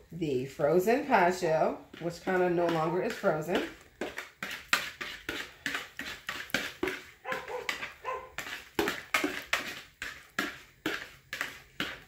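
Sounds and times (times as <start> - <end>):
whisk scraping a mixing bowl: 0.7 - 12.0.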